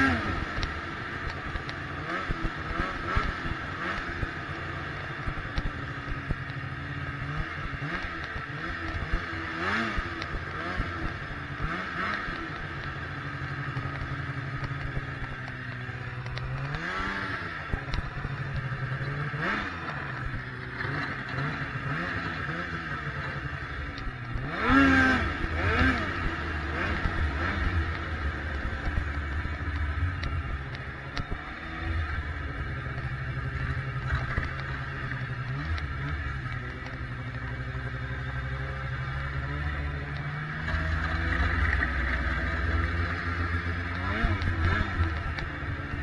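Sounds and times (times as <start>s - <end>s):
snowmobile engine revving: 0.0s - 46.0s.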